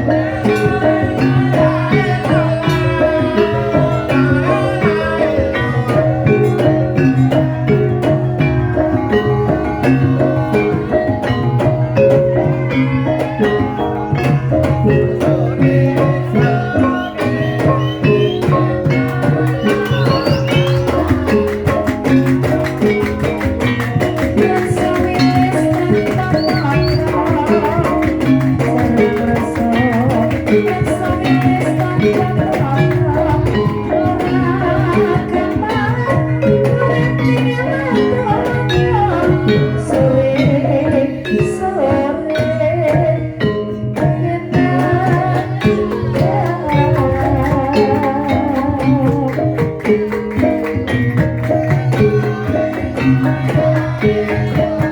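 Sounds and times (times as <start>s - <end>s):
gamelan music: 0.0s - 54.9s.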